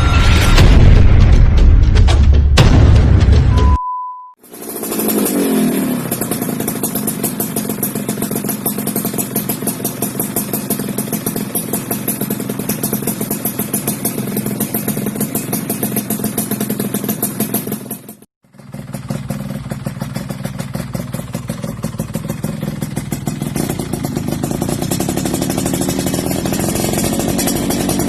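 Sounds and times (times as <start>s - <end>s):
two-stroke engine idling: 4.4s - 28.0s.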